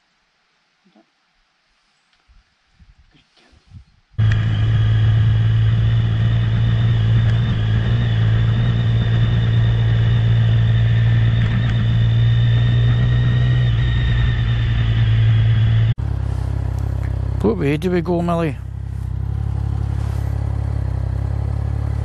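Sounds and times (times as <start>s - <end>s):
high engine whine: 4.2s - 22.0s
motorcycle engine cruising: 4.2s - 22.0s.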